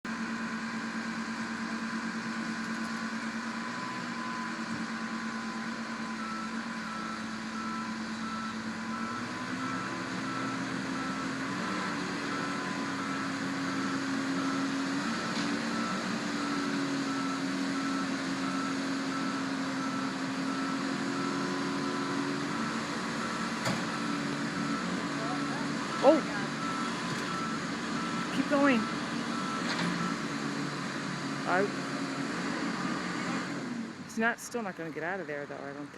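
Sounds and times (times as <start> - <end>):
truck engine revving: 0.1 - 35.9
reversing alarm beeping: 0.2 - 35.9.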